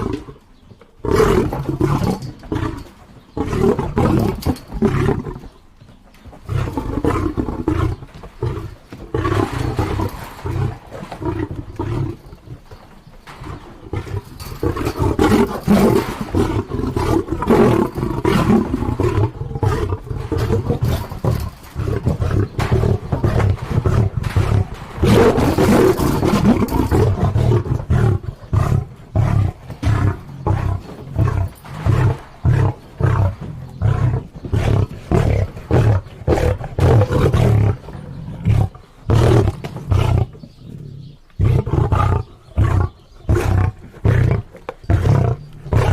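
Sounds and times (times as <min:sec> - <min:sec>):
lion grunting: 0:00.0 - 0:05.6, 0:06.4 - 0:45.9
lion roaring: 0:01.0 - 0:05.5, 0:06.4 - 0:12.3, 0:13.4 - 0:45.9.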